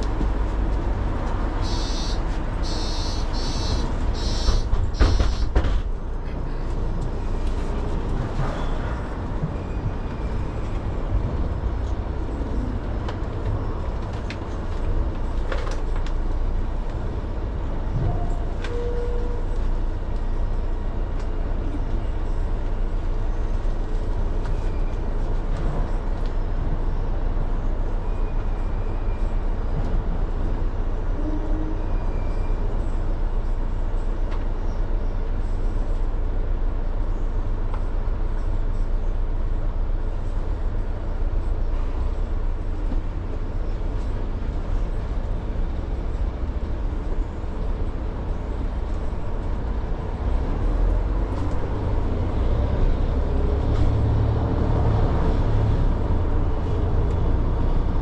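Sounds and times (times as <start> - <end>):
vehicle rumble from inside: 0.0 - 58.0.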